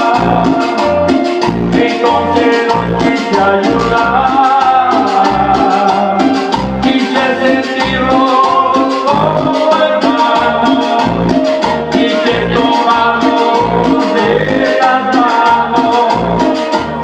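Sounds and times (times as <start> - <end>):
cumbia music: 0.0 - 17.0
pulsing bass beat: 0.0 - 17.0.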